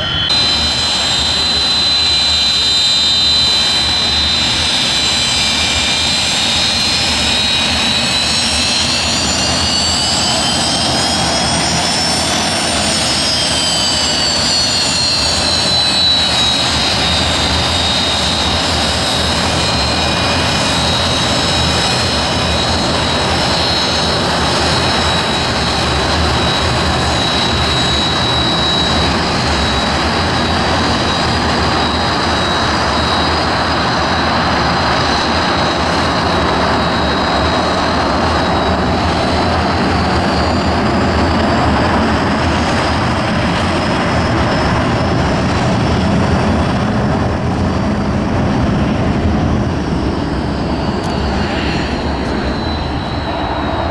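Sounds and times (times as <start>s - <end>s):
jet engines whining: 0.0s - 53.9s.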